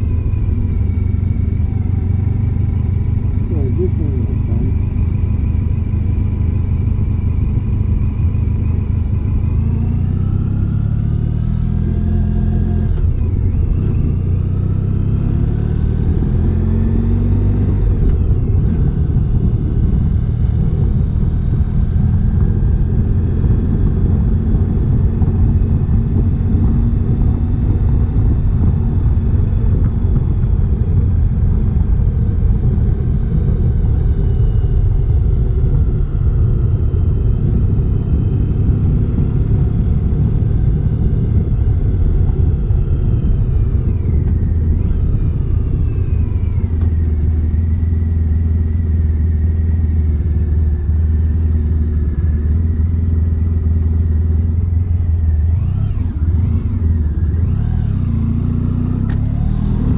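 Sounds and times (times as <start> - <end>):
low rumble: 0.0 - 59.9
motorcycle engine accelerating: 0.0 - 59.9.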